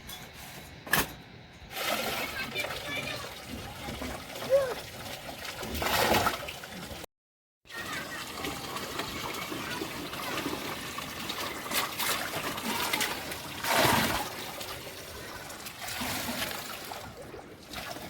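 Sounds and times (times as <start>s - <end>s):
water trickling and splashing: 1.7s - 7.1s, 7.7s - 18.0s.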